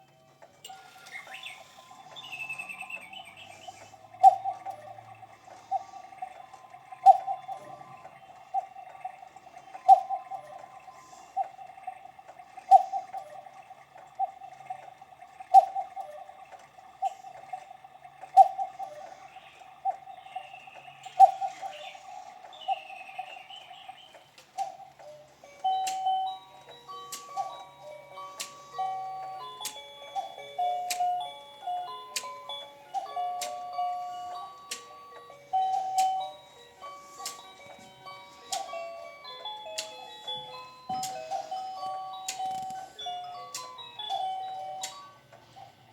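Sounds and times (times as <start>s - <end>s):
clock playing a tune: 0.0s - 45.9s
cuckoo clock call: 0.0s - 45.9s
recorded birdsong chirps: 0.0s - 45.9s.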